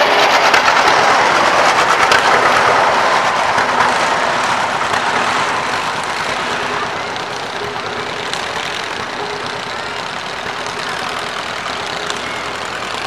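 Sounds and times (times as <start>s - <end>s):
tractor engine running: 0.0s - 13.0s
wagon rattling over road: 0.0s - 13.0s.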